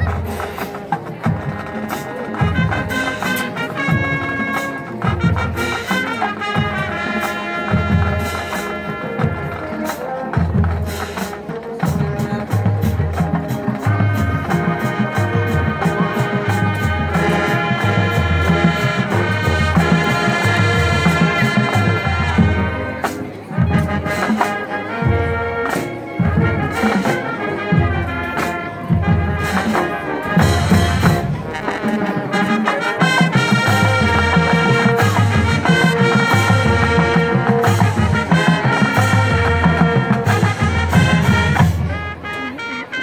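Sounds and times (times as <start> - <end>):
heavy low drum beat: 0.0 - 42.2
brass carrying the tune: 0.0 - 43.0
marching band playing: 0.0 - 43.0.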